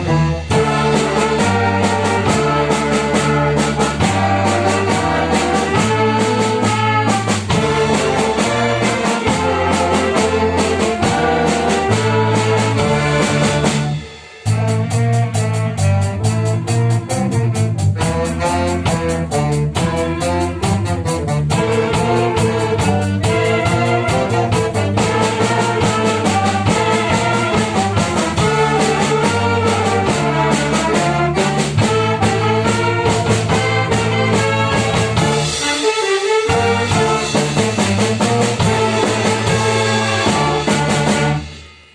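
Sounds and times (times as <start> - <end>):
low bass notes: 0.0 - 35.6
drum kit beat on cymbals: 0.0 - 41.9
trumpets and trombones chords: 0.0 - 41.9
wind band playing: 0.0 - 41.9.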